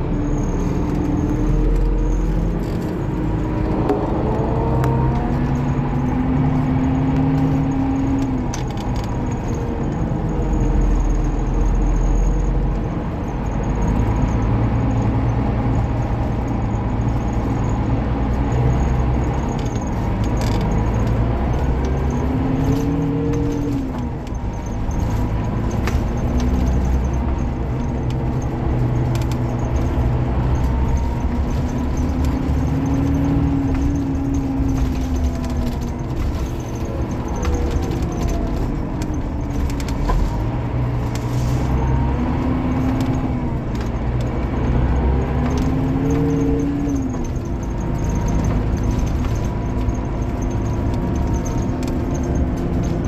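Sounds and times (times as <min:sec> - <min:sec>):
bus diesel engine running: 0:00.0 - 0:53.0
rattles and clicks: 0:00.0 - 0:53.0.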